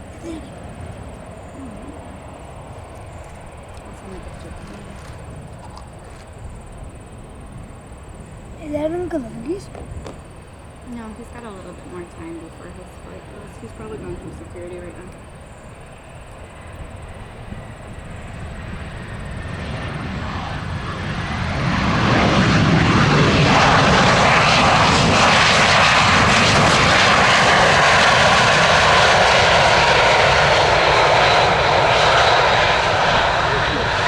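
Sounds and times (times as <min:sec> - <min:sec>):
jet engines rushing with whine: 0:00.0 - 0:34.0.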